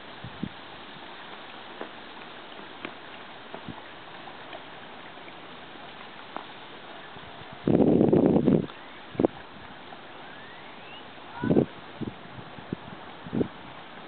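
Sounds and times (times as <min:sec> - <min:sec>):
riverside ambient hiss: 0:00.0 - 0:14.0.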